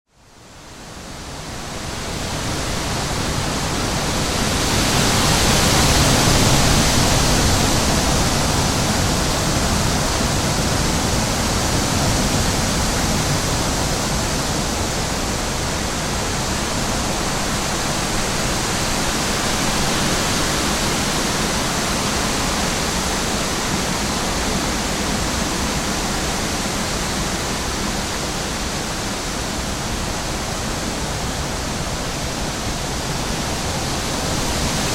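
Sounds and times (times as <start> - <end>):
wind blowing: 1.0 - 34.9.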